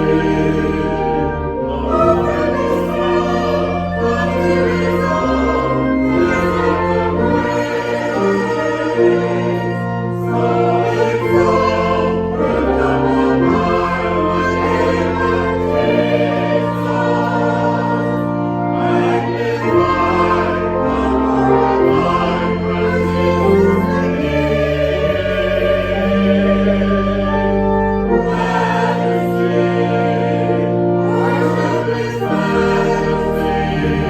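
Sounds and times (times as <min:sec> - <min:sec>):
choir singing sacred music: 0:00.0 - 0:34.0
instrumental accompaniment: 0:00.0 - 0:34.0.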